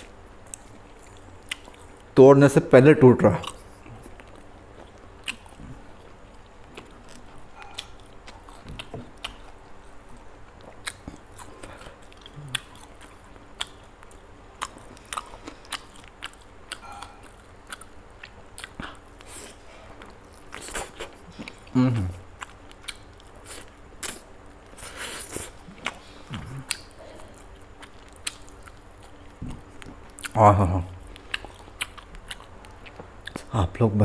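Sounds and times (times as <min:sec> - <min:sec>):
chewing and biting: 0:03.3 - 0:30.4, 0:31.0 - 0:33.5.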